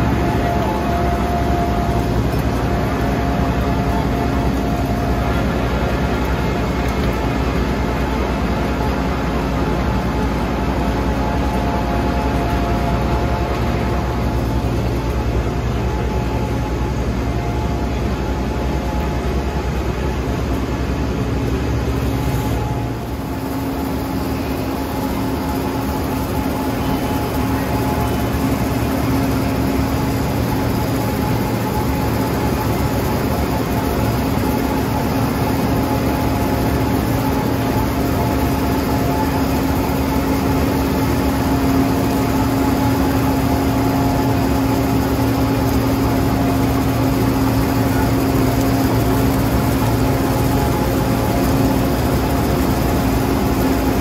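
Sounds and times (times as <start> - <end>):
milling machine drone: 0.0 - 54.0
steady hum-like tone: 0.0 - 54.0.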